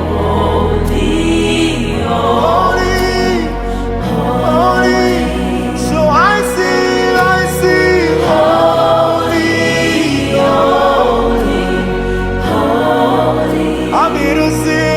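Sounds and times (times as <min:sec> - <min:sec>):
bass and keyboard backing: 0:00.0 - 0:14.9
choir singing gospel music: 0:00.0 - 0:14.9.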